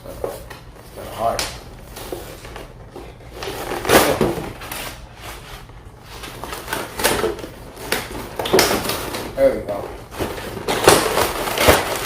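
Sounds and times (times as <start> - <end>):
cardboard and plastic packaging rustling: 0.0 - 12.0.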